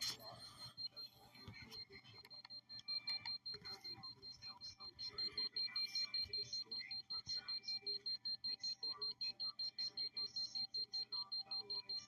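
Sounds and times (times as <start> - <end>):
meter alarm beeping rapidly: 0.2 - 12.0.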